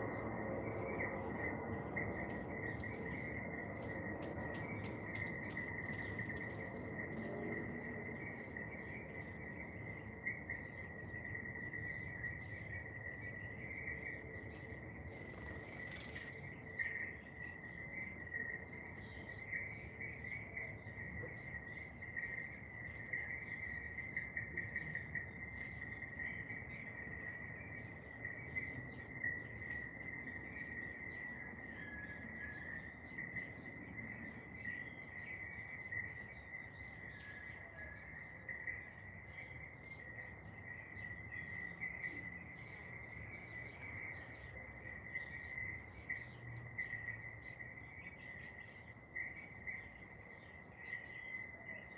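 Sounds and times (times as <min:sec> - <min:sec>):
bird chirps: 0:00.0 - 0:51.9
insects trilling: 0:00.0 - 0:51.9.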